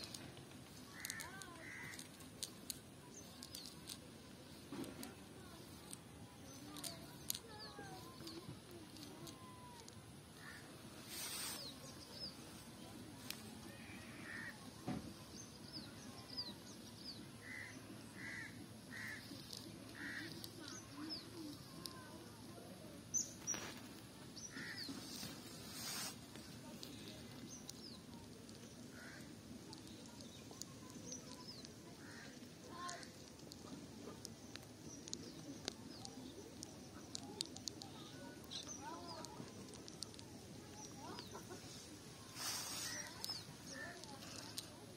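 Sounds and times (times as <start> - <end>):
rustling: 0.0 - 14.4, 23.2 - 44.9
songbirds chirping: 0.0 - 44.9.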